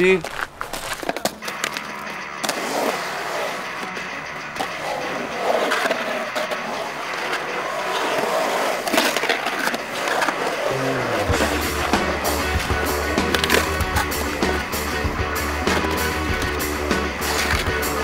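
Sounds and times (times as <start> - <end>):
skateboard wheels rolling on concrete: 0.0 - 18.0
skateboard clacks: 0.2 - 18.0.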